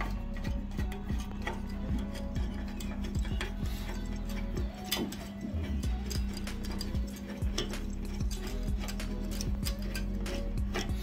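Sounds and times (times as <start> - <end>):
music with a steady beat: 0.0 - 11.0.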